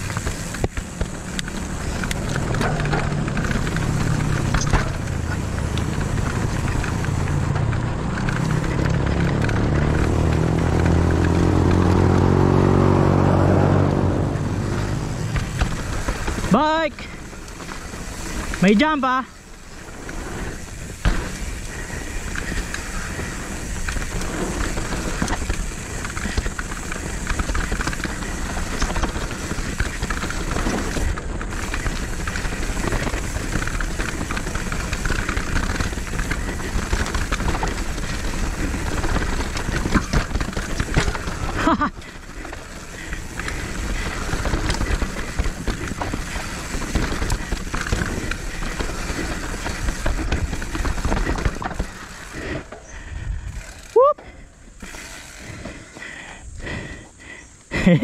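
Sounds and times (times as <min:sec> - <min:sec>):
bike clattering rattles: 0:00.0 - 0:58.0
mountain bike riding rumble: 0:00.0 - 0:58.0.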